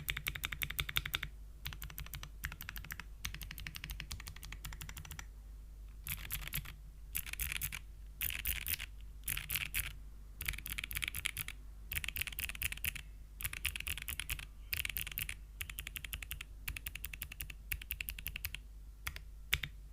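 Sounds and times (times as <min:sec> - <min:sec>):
mechanical keyboard typing clicks: 0:00.0 - 0:05.3, 0:06.0 - 0:19.8.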